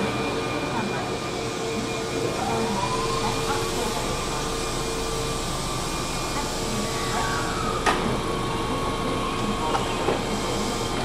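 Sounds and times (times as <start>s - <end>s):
train hum and hiss: 0.0s - 11.0s.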